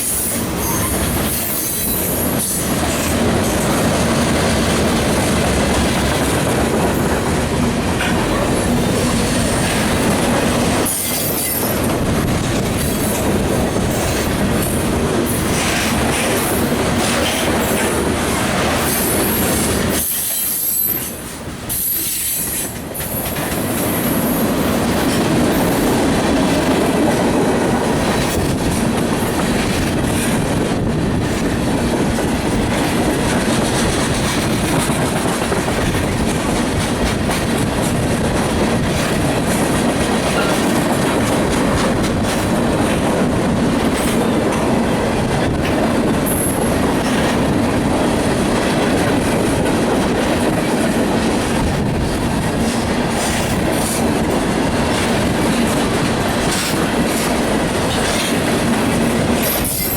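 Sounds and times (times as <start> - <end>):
train wheels clattering over rail joints: 0.0 - 21.0, 21.7 - 59.9.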